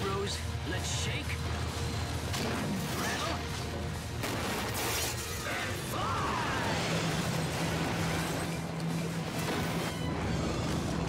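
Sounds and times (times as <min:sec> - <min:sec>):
background score music: 0:00.0 - 0:11.0.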